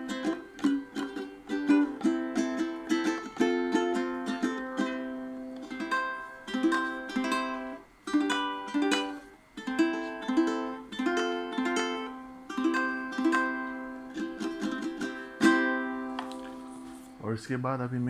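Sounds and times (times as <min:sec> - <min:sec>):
ukulele strumming: 0:00.0 - 0:17.2.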